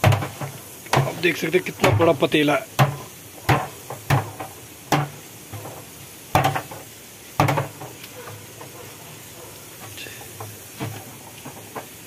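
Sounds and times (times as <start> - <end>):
drum knocking against pot: 0.0 - 8.8, 10.2 - 12.0
steady hiss: 0.0 - 12.0
water pouring into pot: 0.0 - 12.0.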